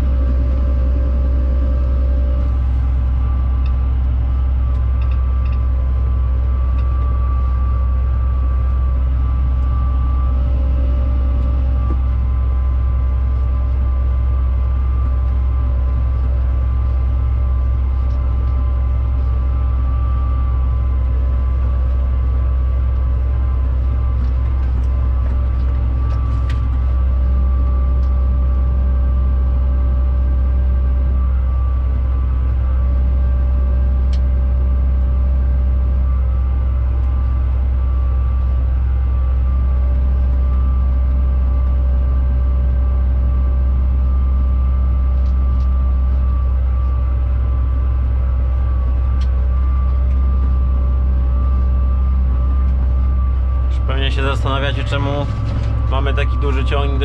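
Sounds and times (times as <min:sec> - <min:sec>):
faint steady whine: 0:00.0 - 0:57.0
tractor engine drone: 0:00.0 - 0:57.0.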